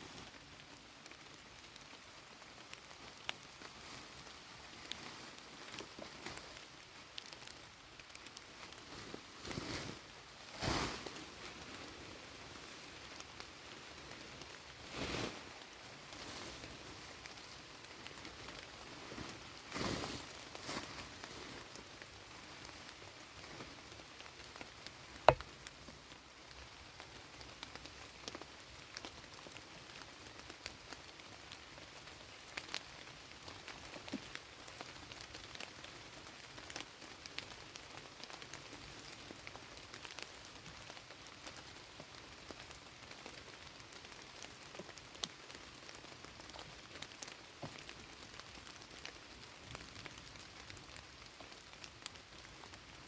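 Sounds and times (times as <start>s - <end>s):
light rain: 0.0s - 53.0s.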